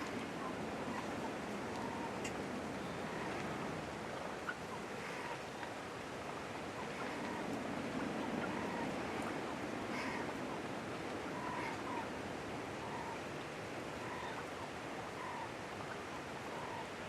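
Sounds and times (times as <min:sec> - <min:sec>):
faint bird calls: 0:00.0 - 0:05.8, 0:06.7 - 0:13.4, 0:14.0 - 0:17.0
wind: 0:00.0 - 0:17.0.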